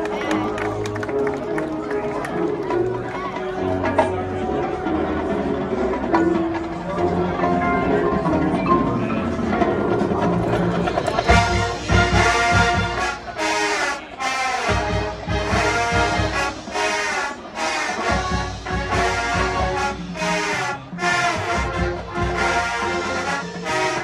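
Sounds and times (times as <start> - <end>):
marching band playing: 0.0 - 24.0
brass chords: 2.3 - 24.0.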